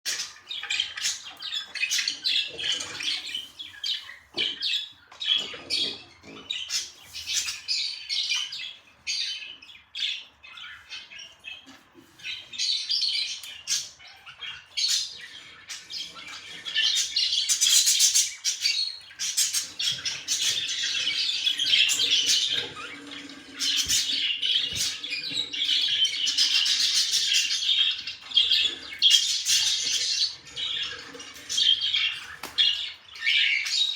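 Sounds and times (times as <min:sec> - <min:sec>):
budgies chirping and chattering: 0:00.1 - 0:33.9.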